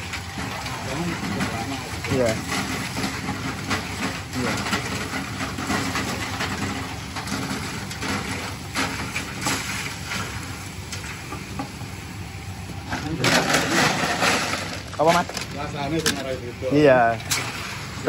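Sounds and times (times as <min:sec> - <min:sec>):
rotating drum machine hum: 0:00.0 - 0:18.0
sand and crackers rattling: 0:00.1 - 0:10.5, 0:12.8 - 0:18.0.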